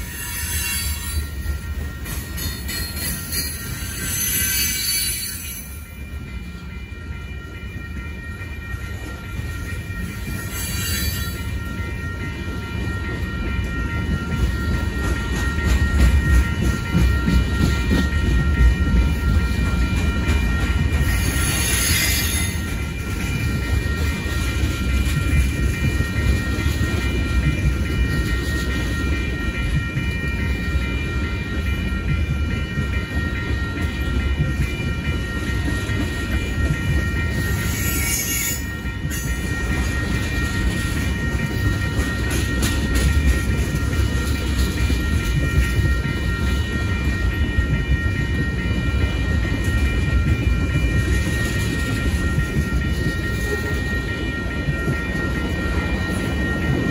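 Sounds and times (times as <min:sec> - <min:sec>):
high ringing tones: 0:00.0 - 0:56.9
train wheels rumbling on rail: 0:00.0 - 0:56.9.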